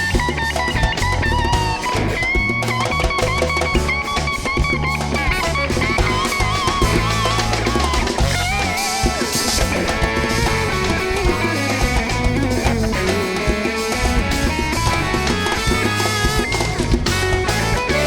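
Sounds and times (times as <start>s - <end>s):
bass guitar: 0.0s - 18.0s
drum kit: 0.0s - 18.0s
guitar: 0.0s - 18.0s
wavering lead melody: 0.0s - 18.0s.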